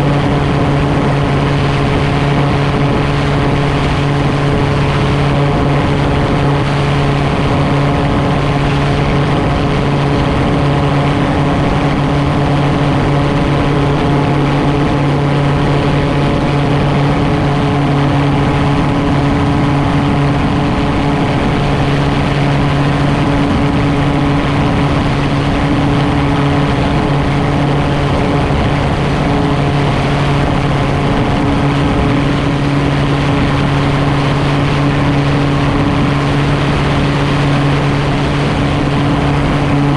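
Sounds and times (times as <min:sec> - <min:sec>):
aircraft engine and propeller humming: 0:00.0 - 0:39.9.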